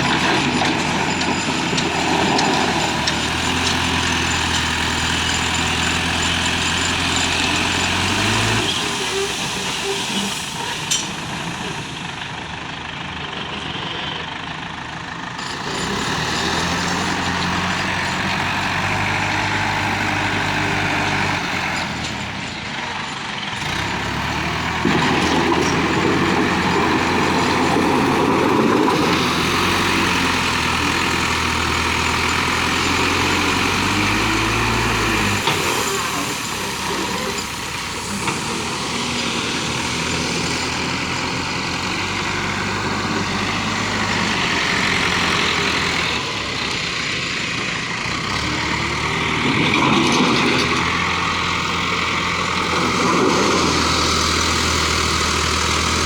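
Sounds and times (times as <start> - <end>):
backhoe diesel engine working: 0.0 - 56.0.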